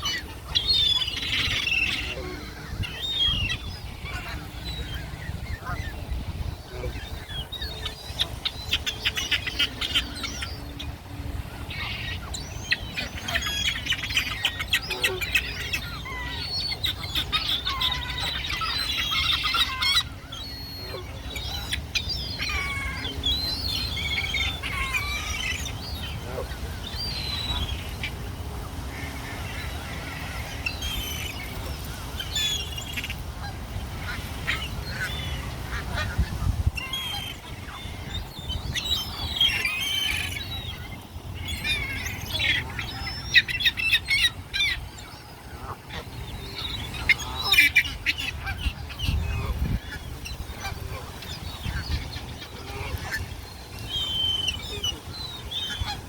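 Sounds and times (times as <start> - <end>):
flock of birds calling: 0.0 - 56.0.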